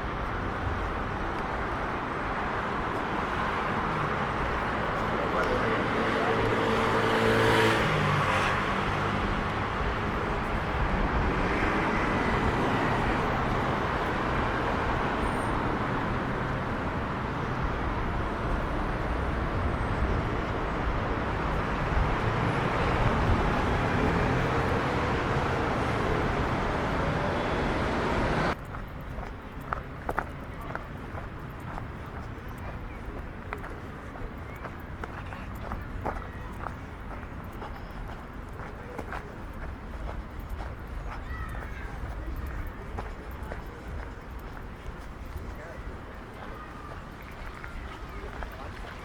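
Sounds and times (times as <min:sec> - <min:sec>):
city road traffic: 0:00.0 - 0:49.0
nearby vehicle engine hum: 0:00.0 - 0:49.0.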